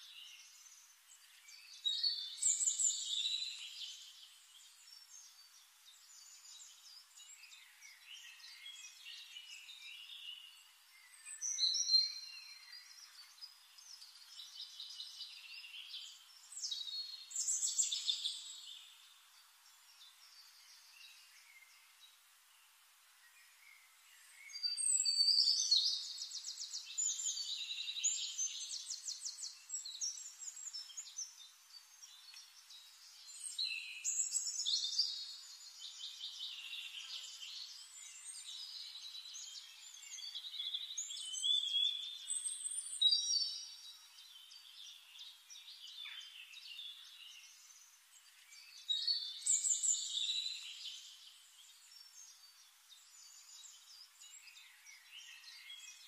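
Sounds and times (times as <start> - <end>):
soft bird chirps: 0.0 - 56.0.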